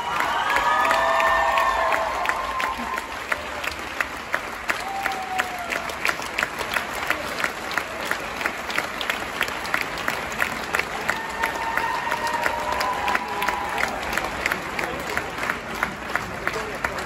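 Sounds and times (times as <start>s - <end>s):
crowd clapping in rhythm: 0.0s - 17.0s
crowd noise: 0.0s - 17.0s.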